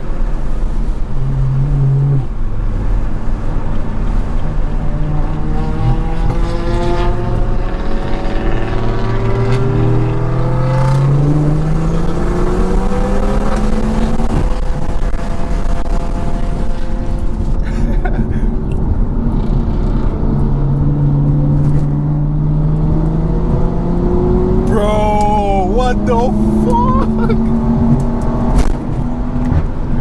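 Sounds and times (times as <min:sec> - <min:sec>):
car engines accelerating hard: 0:00.0 - 0:30.0
wind and road noise: 0:00.0 - 0:30.0.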